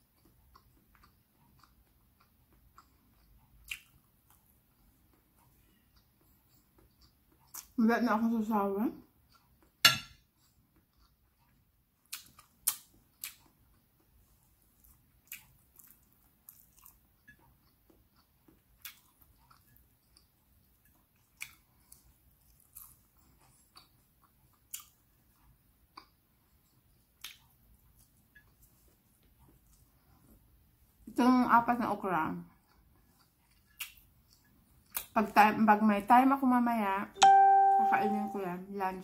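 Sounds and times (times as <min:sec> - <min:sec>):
person chewing food: 0:00.0 - 0:07.8, 0:09.0 - 0:31.1, 0:32.4 - 0:35.2.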